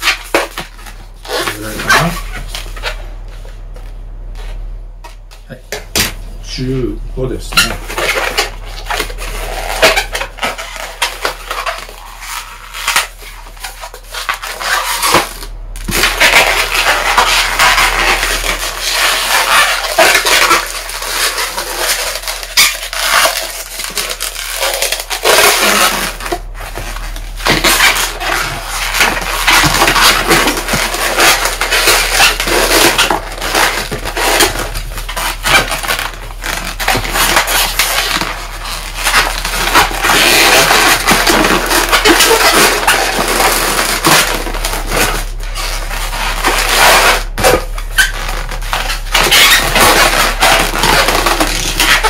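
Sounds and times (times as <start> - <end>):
balloon squeaking as it is twisted: 0.0 - 3.0, 7.4 - 52.0.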